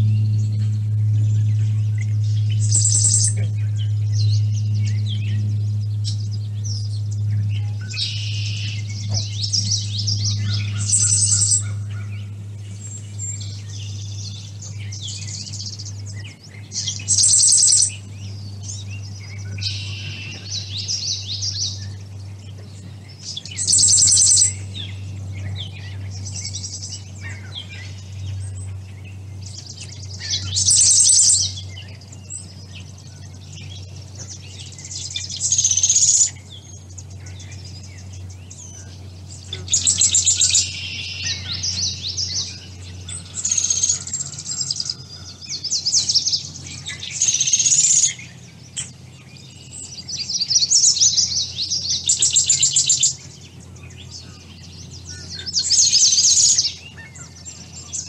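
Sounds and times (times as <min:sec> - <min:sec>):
songbirds singing trills: 0:00.0 - 0:58.0
steady low hum: 0:00.0 - 0:58.0.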